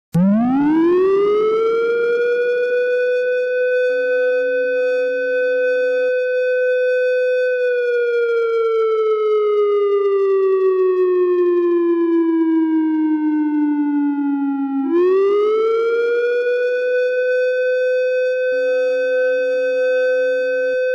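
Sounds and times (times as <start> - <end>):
siren wailing: 0.2 - 20.9.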